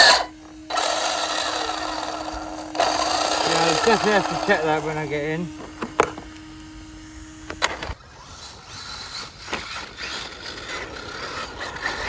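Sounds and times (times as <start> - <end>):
rc car motor whine: 0.0 - 12.0.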